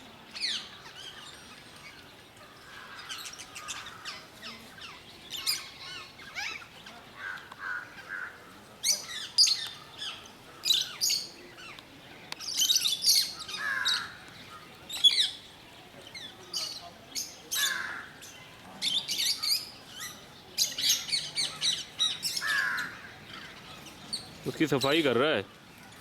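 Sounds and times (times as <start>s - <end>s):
lovebirds chirping: 0.0s - 26.0s.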